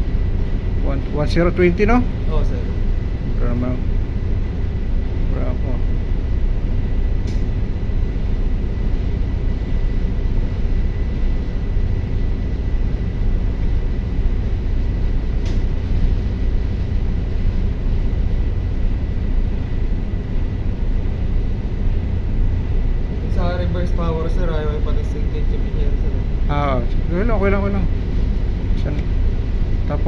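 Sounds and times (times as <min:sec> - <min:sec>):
diesel generator running: 0:00.0 - 0:30.0.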